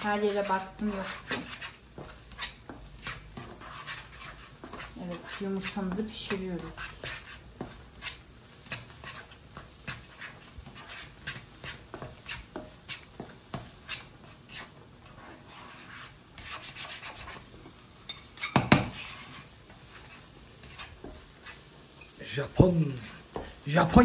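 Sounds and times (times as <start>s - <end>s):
spatula scraping and tapping wok: 0.0s - 24.0s.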